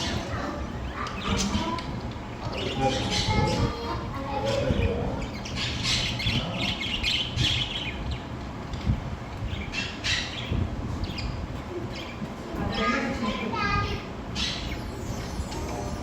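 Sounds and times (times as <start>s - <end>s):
budgerigars squawking and chattering: 0.0s - 16.0s.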